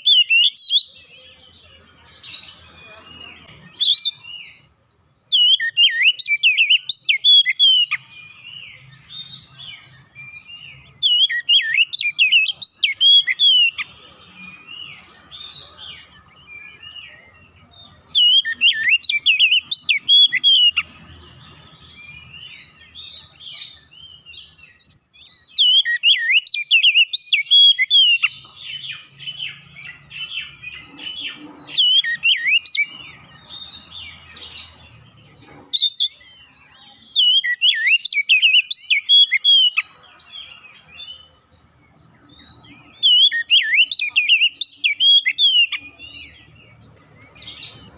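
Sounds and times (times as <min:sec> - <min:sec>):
bird singing whistles and chirps: 0:00.0 - 0:04.7, 0:05.3 - 0:35.0, 0:35.7 - 0:47.9.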